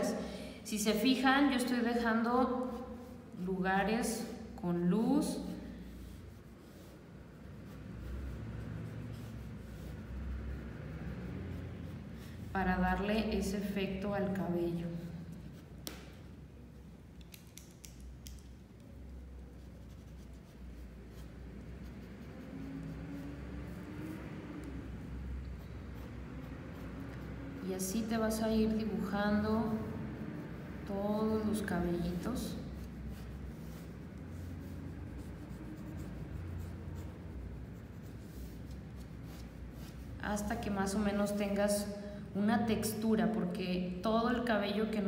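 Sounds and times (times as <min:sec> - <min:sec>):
steady low hum: 0:00.0 - 0:45.0
pencil scratching on paper: 0:01.7 - 0:16.2, 0:19.0 - 0:41.2.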